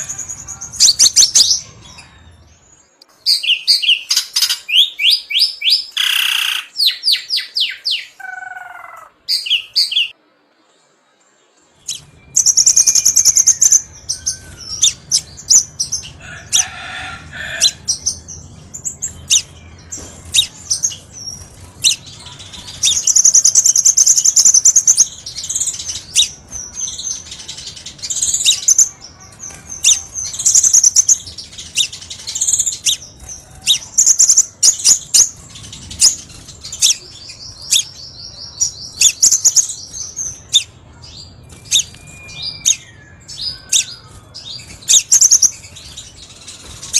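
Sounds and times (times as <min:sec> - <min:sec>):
bird chirping and trilling: 0:00.0 - 0:10.2, 0:11.8 - 0:46.9.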